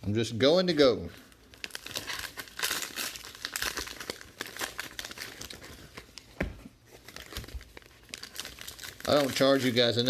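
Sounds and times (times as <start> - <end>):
foil wrappers crinkling and tearing: 0.6 - 6.3, 6.9 - 10.0.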